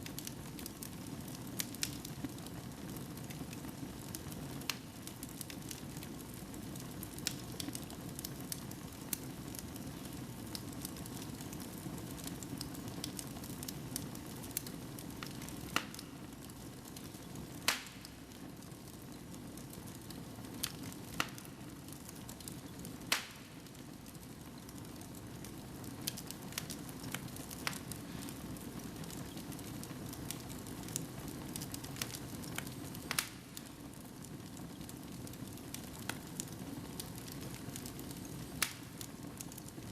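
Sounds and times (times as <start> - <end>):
fire crackling and popping: 0.0 - 39.9
hiss and rustle of flames: 0.0 - 39.9.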